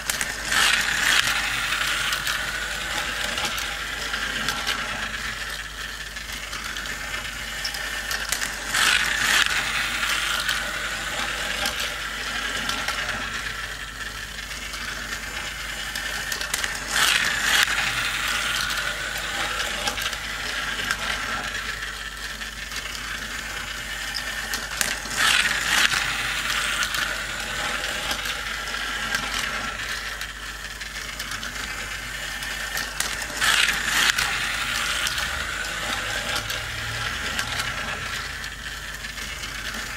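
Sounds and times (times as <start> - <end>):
toy track clattering: 0.0 - 39.9
toy track gears whirring and clicking: 0.0 - 39.9.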